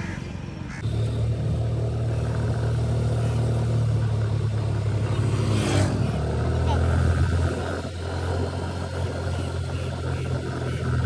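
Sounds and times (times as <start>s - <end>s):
scooter engine droning: 0.8s - 11.0s.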